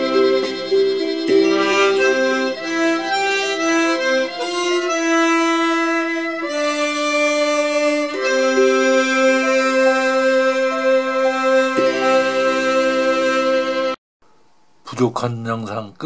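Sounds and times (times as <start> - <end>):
slow instrumental melody: 0.0 - 14.4.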